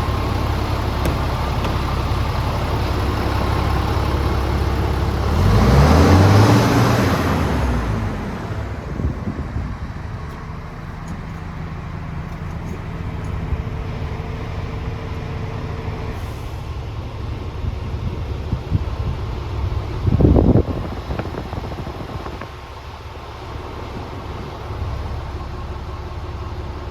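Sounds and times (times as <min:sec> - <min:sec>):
truck diesel engine revving and idling: 0:00.0 - 0:26.9.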